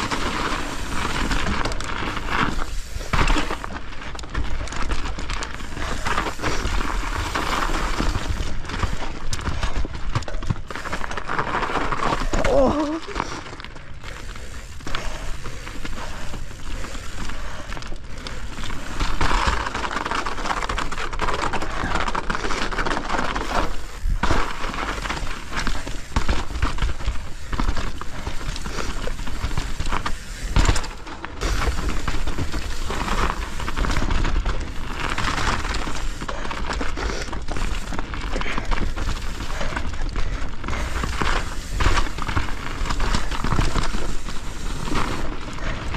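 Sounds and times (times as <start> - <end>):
bike rattling and knocking: 0.0 - 45.9
bike tyres crunching through snow: 0.0 - 45.9.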